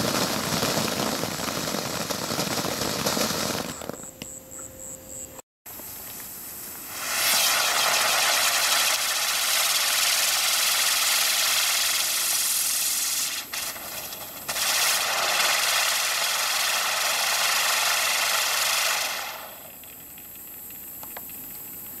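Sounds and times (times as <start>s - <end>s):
firework fountain hissing and crackling: 0.0s - 4.1s, 5.7s - 22.0s.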